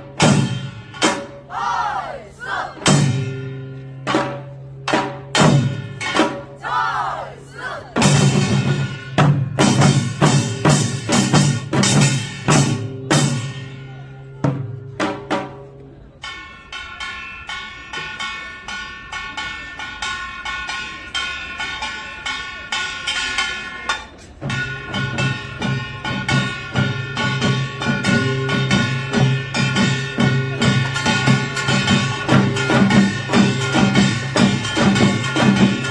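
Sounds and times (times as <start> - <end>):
percussion ensemble drumming: 0.0 - 15.6, 19.3 - 35.9.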